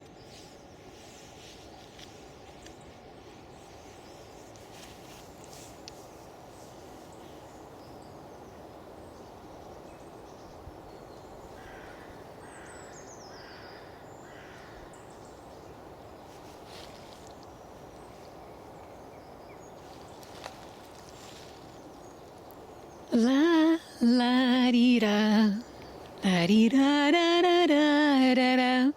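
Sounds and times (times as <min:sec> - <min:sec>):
birds calling: 0:00.0 - 0:27.0
outdoor background noise: 0:00.0 - 0:28.9.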